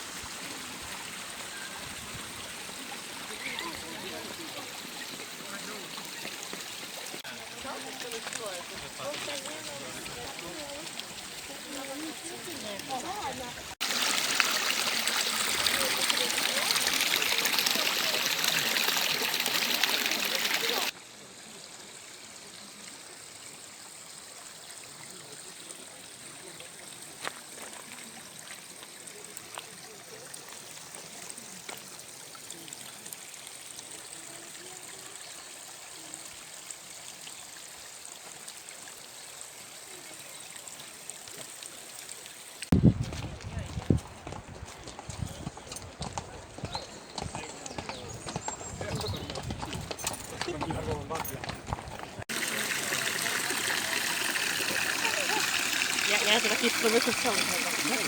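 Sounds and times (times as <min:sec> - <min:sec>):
stream rushing over rocks: 0:00.0 - 0:21.4, 0:24.8 - 0:58.0.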